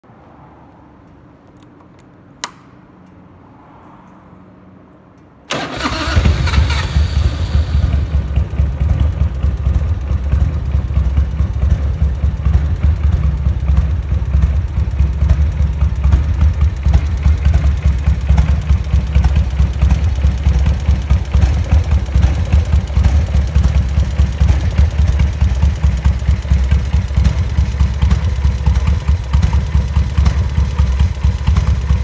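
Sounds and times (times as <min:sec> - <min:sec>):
motorcycle engine starting and idling: 0:05.4 - 0:32.0.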